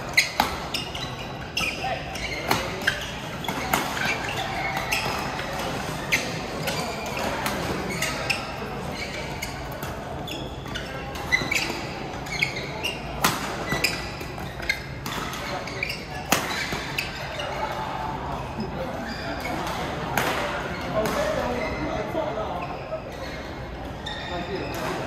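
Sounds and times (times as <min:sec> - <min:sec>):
shoes squeaking on court floor: 0:00.0 - 0:25.0.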